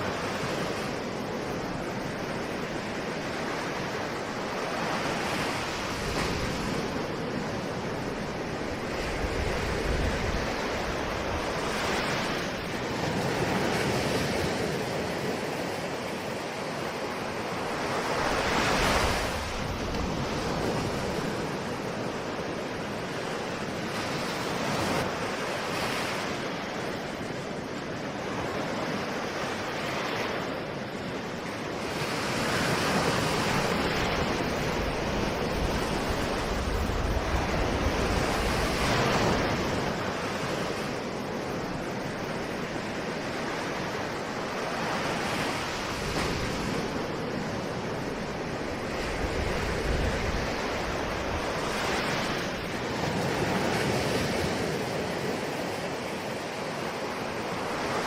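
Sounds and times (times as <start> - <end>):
ocean waves breaking: 0.0 - 58.0
wind rumble on microphone: 0.0 - 58.0.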